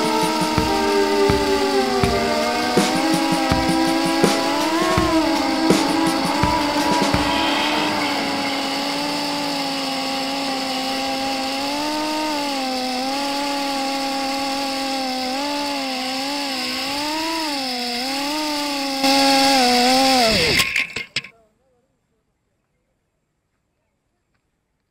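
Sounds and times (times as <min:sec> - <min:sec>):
drone motors whining: 0:00.0 - 0:21.3.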